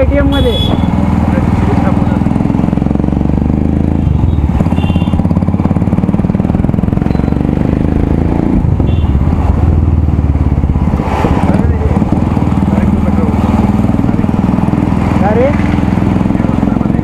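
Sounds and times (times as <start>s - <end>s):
single-cylinder motorcycle engine thumping: 2.2s - 17.0s.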